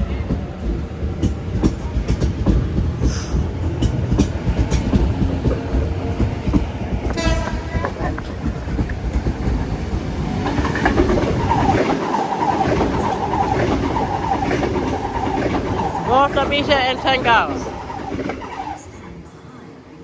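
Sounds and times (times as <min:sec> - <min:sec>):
electric train passing: 0:00.0 - 0:20.0
wheels clattering over rail joints: 0:00.3 - 0:19.0.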